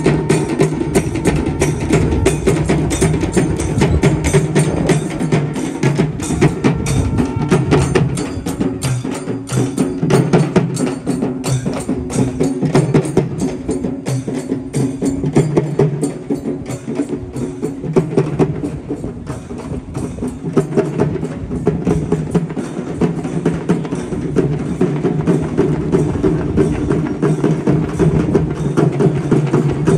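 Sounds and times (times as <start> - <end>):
fast dense drumming: 0.0 - 29.9.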